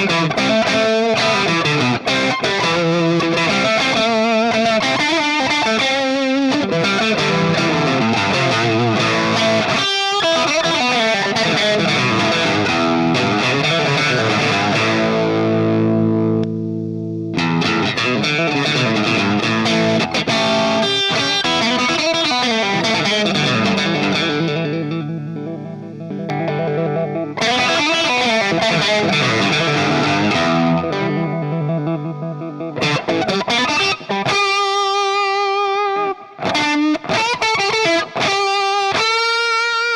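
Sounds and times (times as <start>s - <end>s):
overdriven electric guitar: 0.0s - 39.9s.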